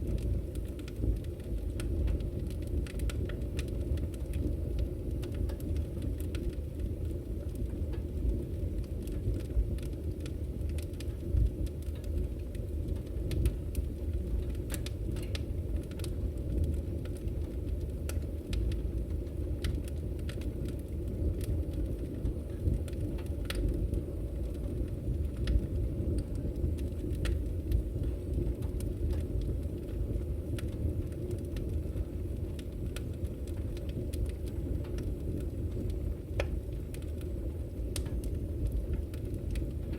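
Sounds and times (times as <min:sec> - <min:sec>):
fire crackles and pops: 0:00.0 - 0:39.9
fire rumbling in wood stove: 0:00.0 - 0:39.9.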